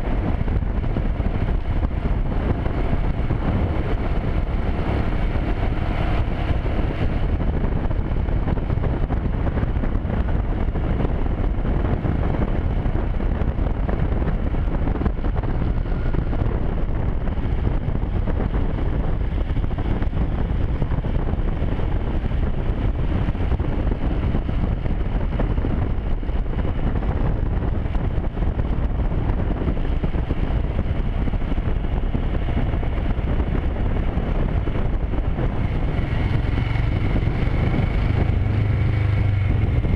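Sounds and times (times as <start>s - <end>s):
motorcycle cruising: 0.0s - 39.9s
wind rushing over microphone: 0.0s - 39.9s.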